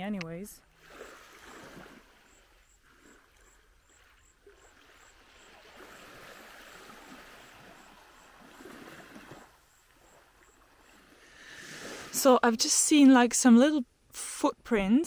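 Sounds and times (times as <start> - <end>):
small waves lapping on shore: 0.2 - 12.9.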